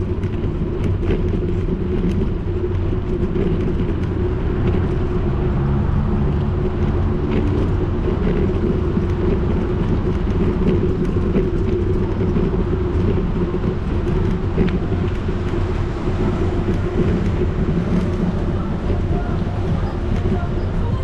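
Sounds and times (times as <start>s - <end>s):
bicycle rumbling over paving stones: 0.0s - 21.0s
light clicks and rattles: 0.0s - 21.0s.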